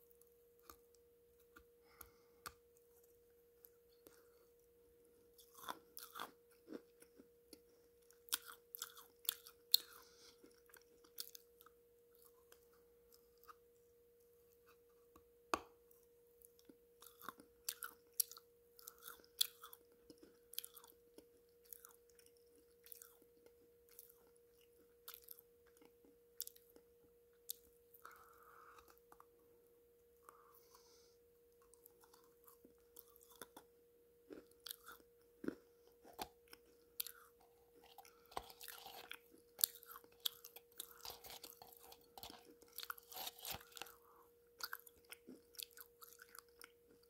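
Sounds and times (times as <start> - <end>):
faint steady hum: 0.0 - 47.0
person chewing hard crunchy food: 5.3 - 13.6, 16.4 - 29.4, 30.2 - 47.0.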